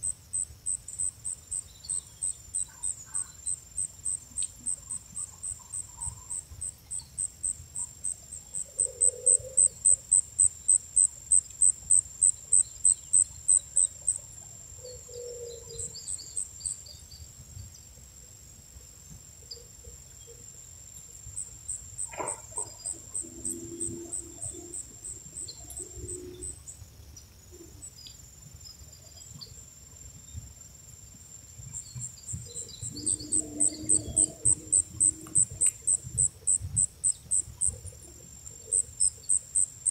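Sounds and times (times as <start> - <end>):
insect chirping pulses: 0.0 - 17.0, 21.0 - 39.9
insects humming: 0.0 - 39.9.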